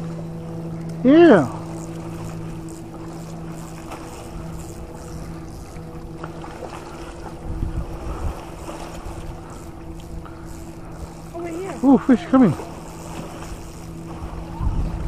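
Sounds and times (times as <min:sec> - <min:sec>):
wind buffeting microphone: 0:00.0 - 0:11.9, 0:12.5 - 0:15.0
motorboat engine drone: 0:00.0 - 0:15.0.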